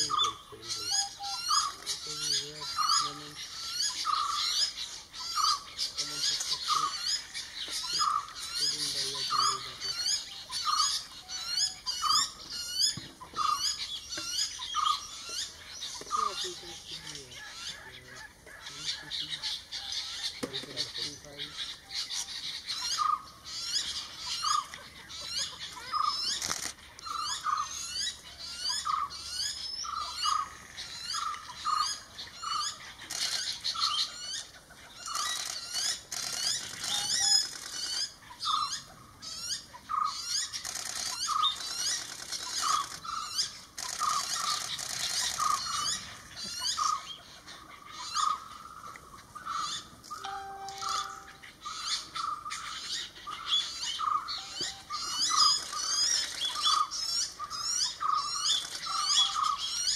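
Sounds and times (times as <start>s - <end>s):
squeaky bird chattering: 0.0s - 18.0s, 18.6s - 47.2s, 49.6s - 59.9s.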